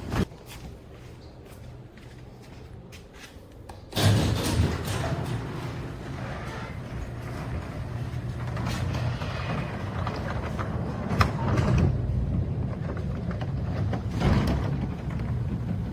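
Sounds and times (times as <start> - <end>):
low mechanical hum: 0.0 - 15.9.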